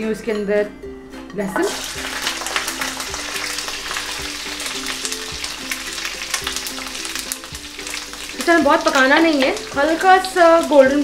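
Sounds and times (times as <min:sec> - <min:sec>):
garlic sizzling in hot oil: 0:01.4 - 0:11.0.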